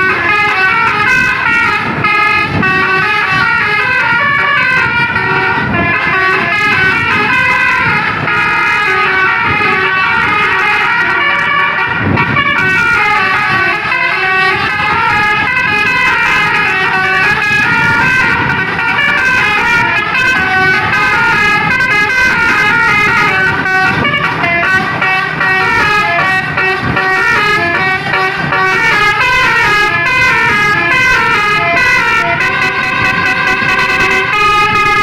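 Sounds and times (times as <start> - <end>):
bus air horn playing a tune: 0.0 - 35.0.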